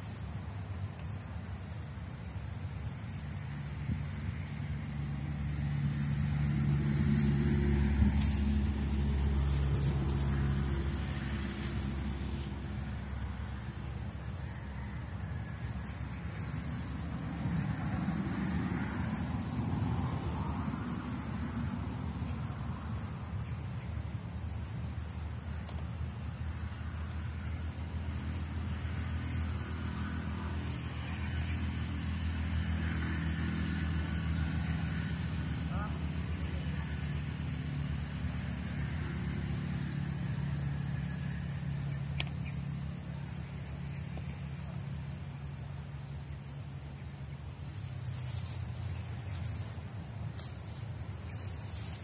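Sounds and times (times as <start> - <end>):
high-pitched insect trilling: 0.0 - 52.0.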